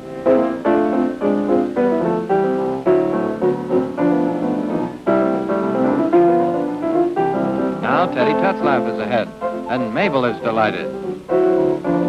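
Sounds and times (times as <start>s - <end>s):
lively piano music: 0.0s - 12.0s.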